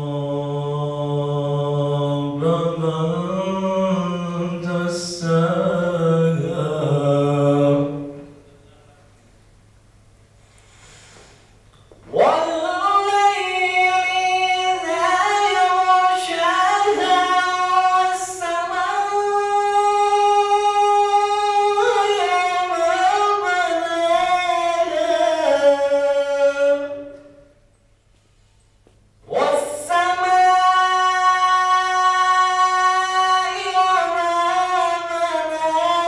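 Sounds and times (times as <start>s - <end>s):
man chanting: 0.0s - 9.1s, 12.1s - 27.5s, 29.2s - 36.0s.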